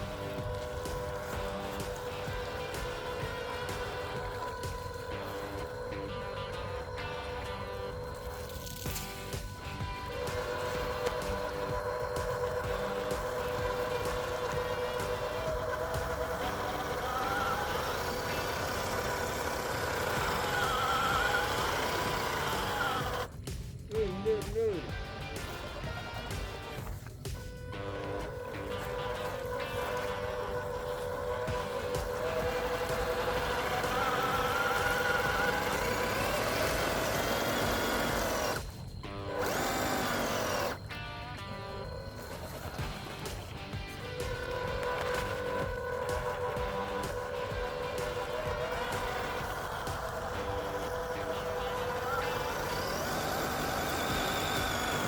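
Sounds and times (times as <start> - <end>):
music: 0.0 - 55.0
toy truck motor whining: 0.0 - 55.0.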